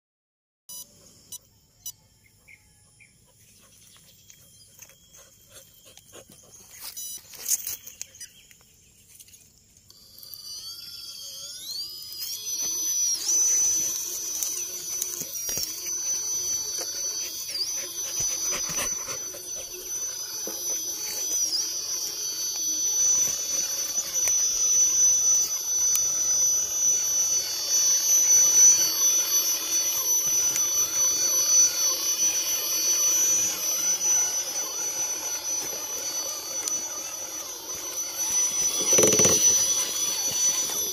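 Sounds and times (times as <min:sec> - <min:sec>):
electric motor whine: 0:03.4 - 0:40.9.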